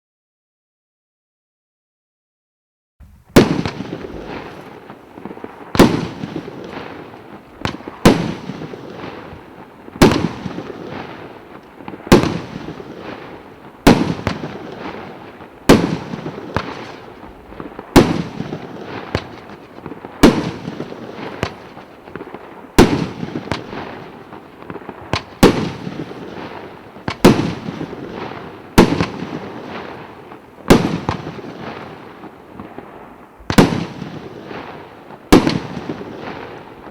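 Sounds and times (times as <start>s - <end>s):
firework bangs: 3.0s - 36.9s.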